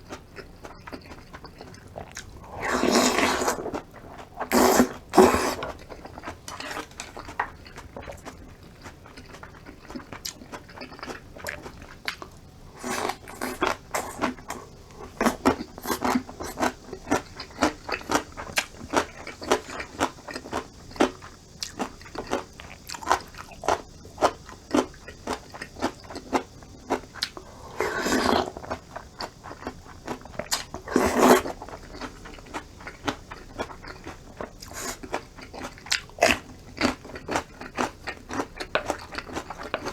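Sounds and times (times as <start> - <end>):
food crunching: 0.0 - 39.9
person chewing food: 0.0 - 39.9.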